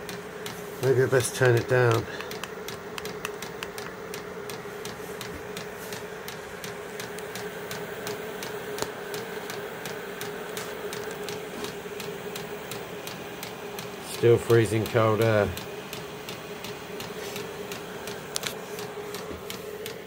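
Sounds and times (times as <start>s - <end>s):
heater blower fan humming: 0.0s - 20.0s.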